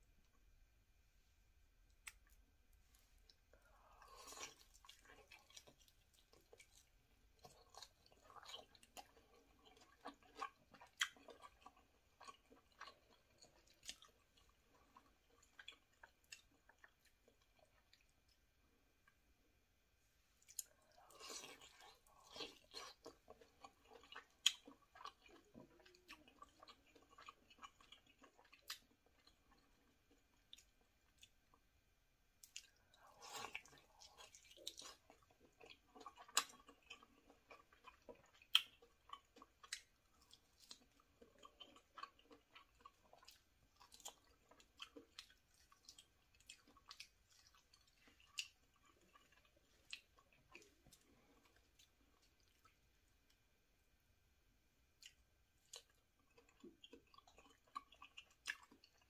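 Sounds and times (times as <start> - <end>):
chewing with mouth clicks: 1.9 - 18.4, 20.4 - 31.6, 32.4 - 53.4, 54.9 - 59.0.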